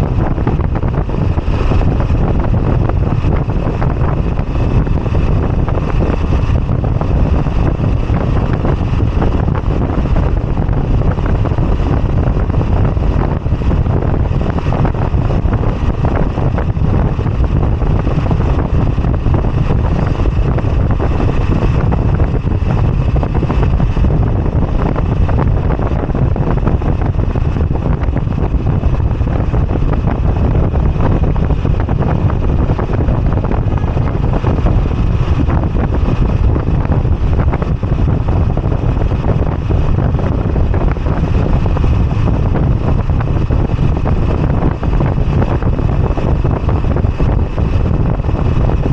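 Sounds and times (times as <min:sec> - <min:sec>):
motorcycle engine running: 0:00.0 - 0:48.9
wind rush on microphone: 0:00.0 - 0:48.9.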